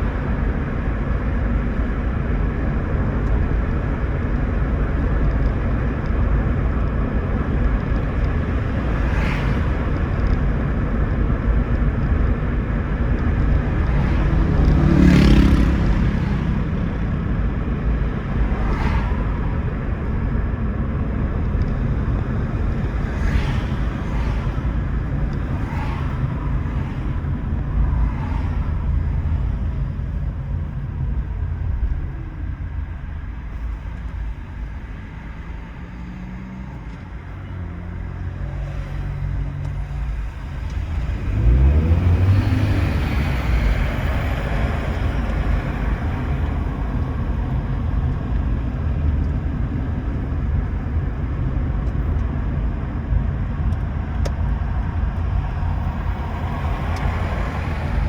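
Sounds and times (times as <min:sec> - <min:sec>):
car hum rising in pitch: 0:00.0 - 0:58.0
tyre and road noise: 0:00.0 - 0:58.0.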